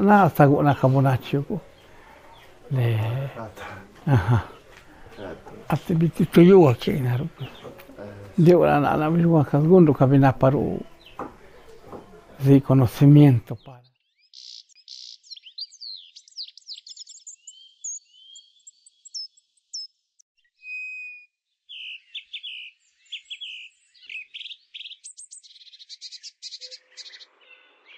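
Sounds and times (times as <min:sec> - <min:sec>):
songbirds singing: 0:00.0 - 0:27.9.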